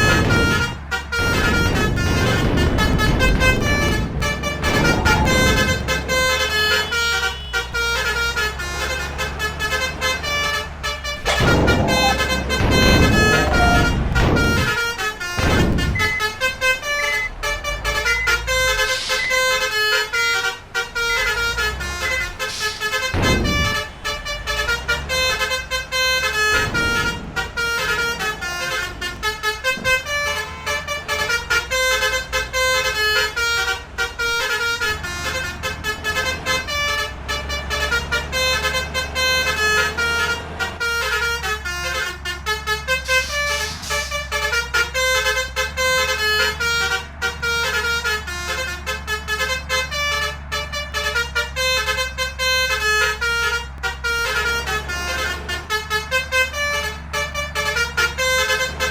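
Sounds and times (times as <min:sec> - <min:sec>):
bus engine drone: 0:00.0 - 0:58.9
musical bus horn melody: 0:00.0 - 0:58.9.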